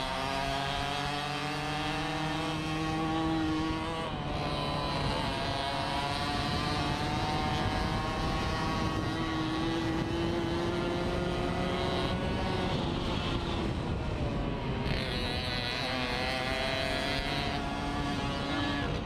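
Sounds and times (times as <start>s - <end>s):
moped engine revving high: 0.0s - 19.0s.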